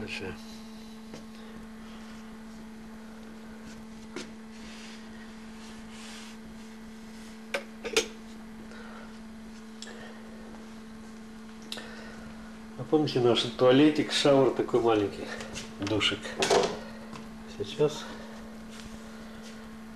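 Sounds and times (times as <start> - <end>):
low electrical hum: 0.0 - 19.9.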